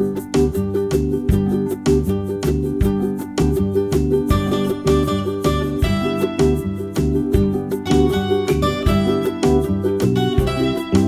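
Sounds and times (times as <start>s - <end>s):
bouncy plucked instrumental music: 0.0s - 11.0s.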